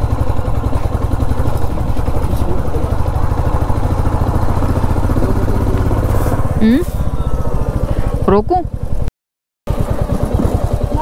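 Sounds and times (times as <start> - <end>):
motorcycle engine running: 0.0 - 9.1, 9.7 - 11.0.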